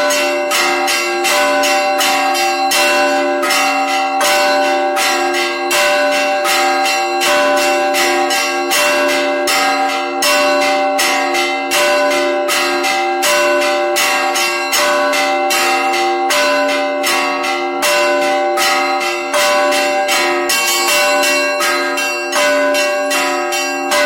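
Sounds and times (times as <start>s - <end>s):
large bells humming: 0.0s - 24.0s
small church bells struck rapidly: 0.0s - 24.0s.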